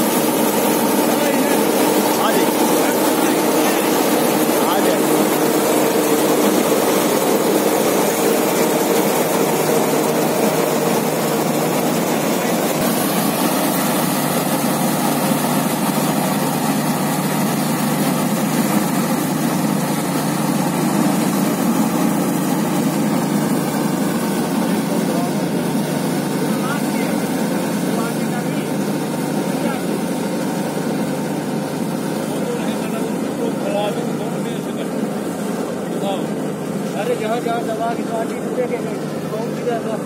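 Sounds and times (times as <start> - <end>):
combine harvester droning: 0.0 - 40.0.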